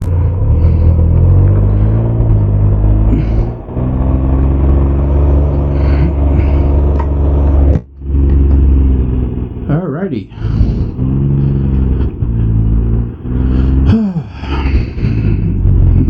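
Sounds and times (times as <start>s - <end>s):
three-cylinder engine running: 0.0s - 16.0s.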